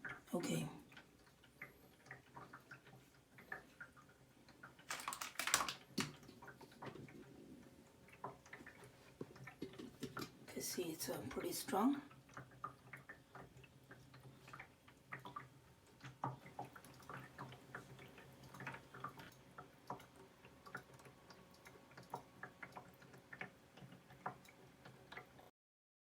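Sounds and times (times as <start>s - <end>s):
water ticking and dripping: 0.0s - 25.5s.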